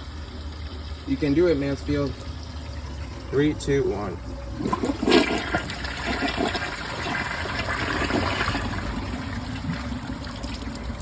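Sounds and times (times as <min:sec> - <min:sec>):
toilet flushing: 0:00.0 - 0:11.0.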